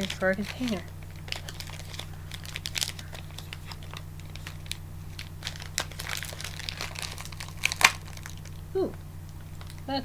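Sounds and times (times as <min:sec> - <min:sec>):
steady low hum: 0:00.0 - 0:10.0
wrapper crinkling: 0:00.0 - 0:10.0.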